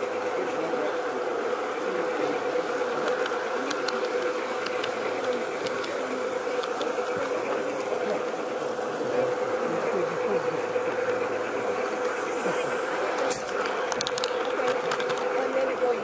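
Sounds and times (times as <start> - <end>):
model train motor buzzing: 0.0 - 16.0
wheels clicking on rails: 0.0 - 16.0.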